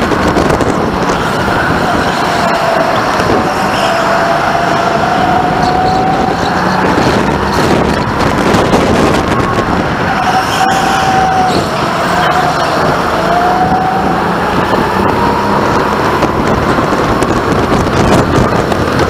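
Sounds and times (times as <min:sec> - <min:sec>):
go-kart engine at speed: 0:00.0 - 0:19.0.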